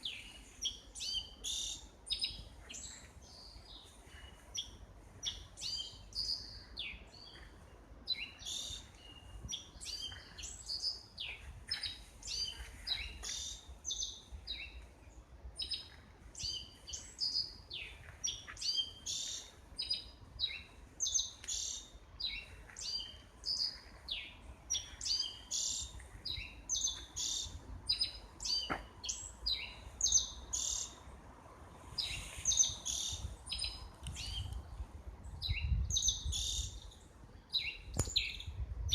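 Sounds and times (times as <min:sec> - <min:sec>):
small birds chirping: 0:00.0 - 0:31.1, 0:31.9 - 0:38.9.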